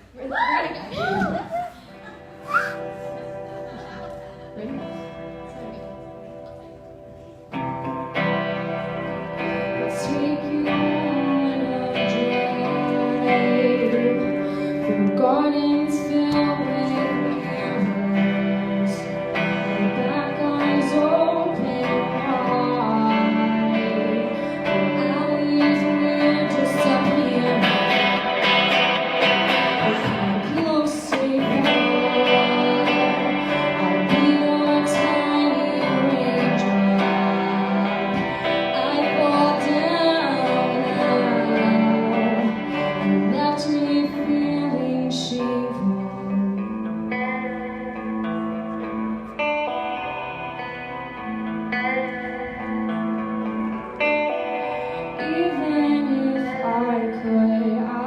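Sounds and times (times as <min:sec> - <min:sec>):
strummed and plucked guitar: 0:00.9 - 0:58.0
person singing: 0:07.5 - 0:58.0.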